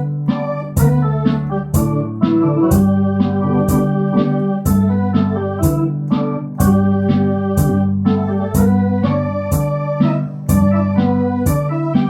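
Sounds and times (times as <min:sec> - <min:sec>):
accompaniment beat: 0:00.0 - 0:12.0
electronic organ playing: 0:00.0 - 0:12.0.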